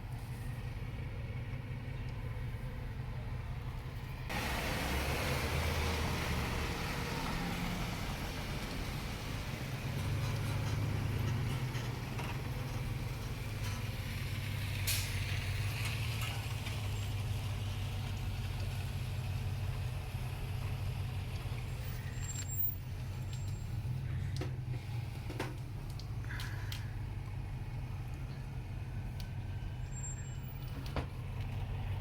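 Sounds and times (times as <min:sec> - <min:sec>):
truck and bus engines rumbling: 0:00.0 - 0:32.0.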